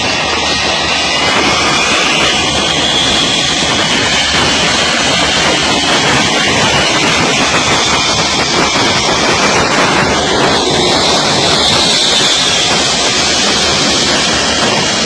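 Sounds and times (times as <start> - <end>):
jet engines roaring with whine: 0.0 - 15.0
wind buffeting microphone: 0.0 - 15.0.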